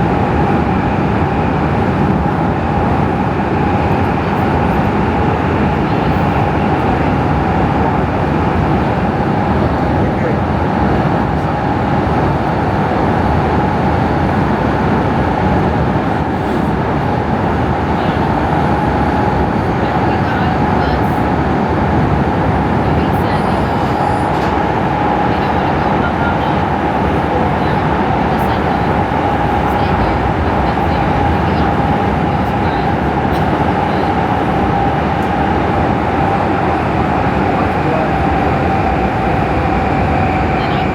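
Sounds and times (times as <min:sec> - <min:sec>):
steady train whine: 0:00.0 - 0:40.9
train wheels rumbling on rail: 0:00.0 - 0:40.9.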